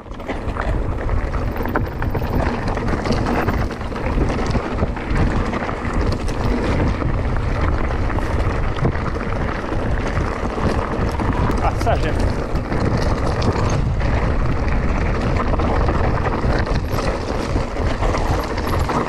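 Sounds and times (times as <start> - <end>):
bike rattling over rocky trail: 0.0 - 19.0
wind on microphone: 0.0 - 19.0.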